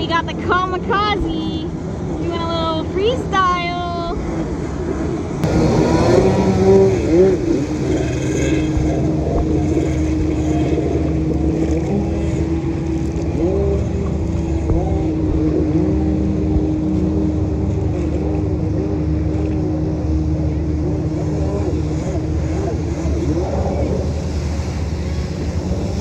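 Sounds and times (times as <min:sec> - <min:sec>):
jetski engine revving: 0:00.0 - 0:26.0
water splashing: 0:00.0 - 0:26.0.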